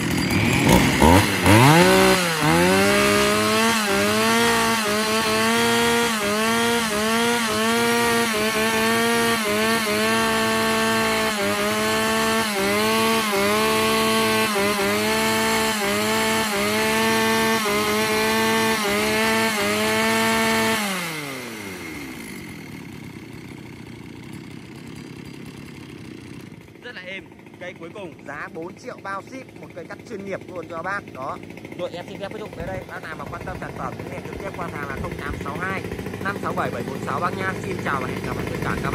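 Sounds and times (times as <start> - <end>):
chainsaw running at high revs: 0.0 - 38.9.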